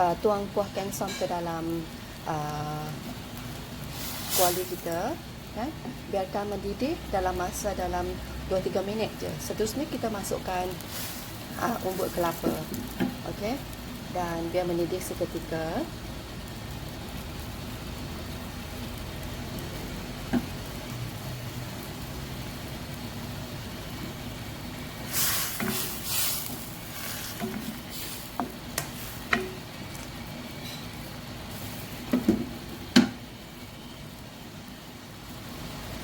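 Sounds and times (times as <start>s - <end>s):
broth bubbling in a wok: 0.0s - 36.0s.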